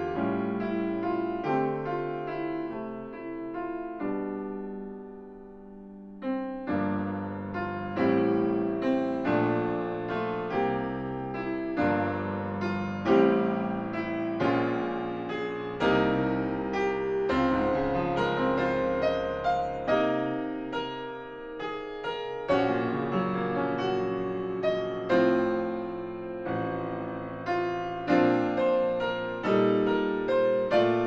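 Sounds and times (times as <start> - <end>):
solo piano playing: 0.0 - 31.0.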